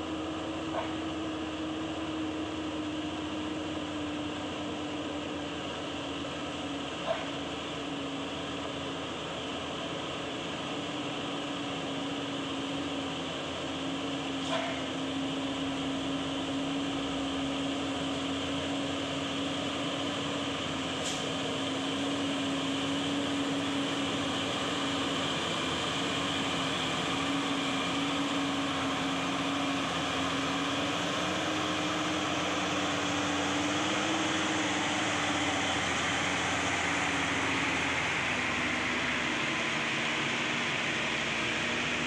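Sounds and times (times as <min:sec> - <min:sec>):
dump truck diesel engine droning: 0:00.0 - 0:42.0
second truck engine: 0:00.0 - 0:42.0.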